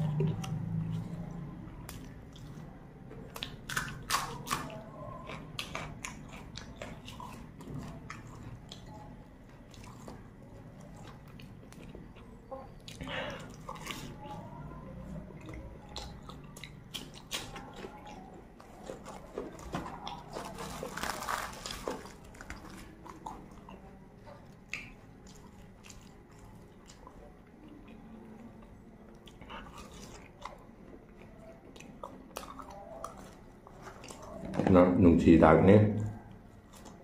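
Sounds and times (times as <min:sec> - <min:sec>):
chewing and wet mouth sounds: 0:00.0 - 0:34.9, 0:36.0 - 0:37.0.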